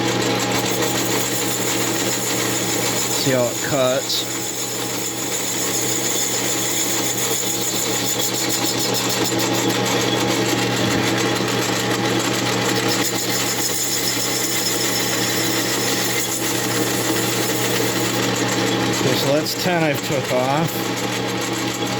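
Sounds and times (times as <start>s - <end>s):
lathe humming: 0.0s - 21.9s.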